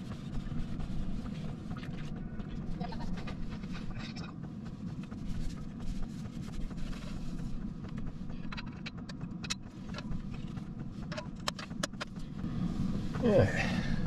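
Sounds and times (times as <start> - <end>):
low rumble inside van: 0.0 - 14.0.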